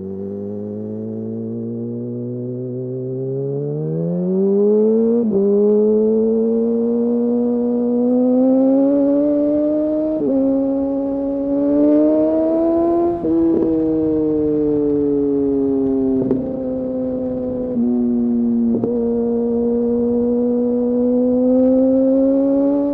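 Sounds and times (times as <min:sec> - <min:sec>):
motorcycle engine accelerating: 0:00.0 - 0:22.9.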